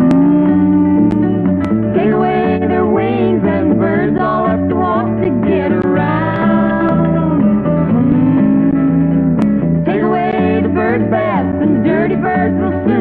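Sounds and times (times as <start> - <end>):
country band with guitar: 0.0 - 13.0
man and woman singing duet: 2.0 - 13.0.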